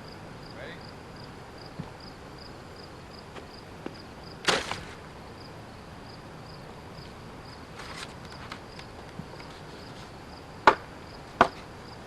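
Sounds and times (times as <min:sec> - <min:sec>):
faint rustle: 0:00.0 - 0:10.5
crickets chirping: 0:00.0 - 0:12.0.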